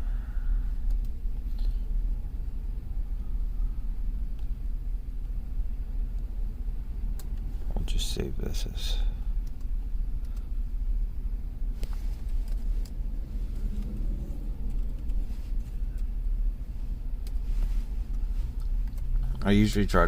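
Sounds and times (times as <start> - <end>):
car engine rumbling: 0.0 - 19.9.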